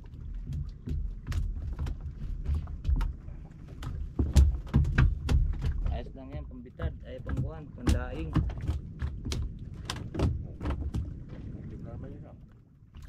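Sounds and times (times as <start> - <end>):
irregular knocks and clatter: 0.0 - 11.6.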